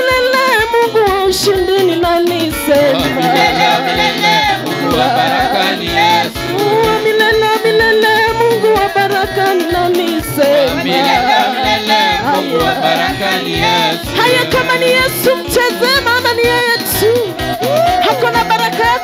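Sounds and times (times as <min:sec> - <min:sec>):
gospel song with voices singing: 0:00.0 - 0:19.0.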